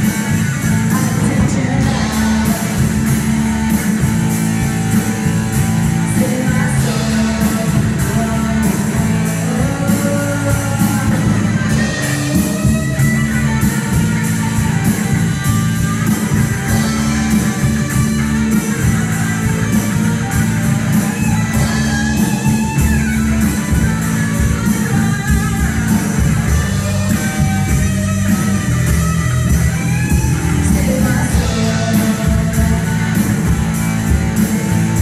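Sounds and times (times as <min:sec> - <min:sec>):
bass guitar: 0:00.0 - 0:35.0
drum kit beat: 0:00.0 - 0:35.0
electric guitar: 0:00.0 - 0:35.0.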